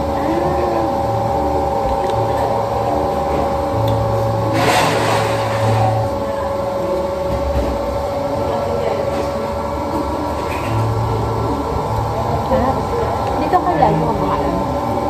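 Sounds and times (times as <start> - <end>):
machine hum with low rumble: 0.0 - 15.0.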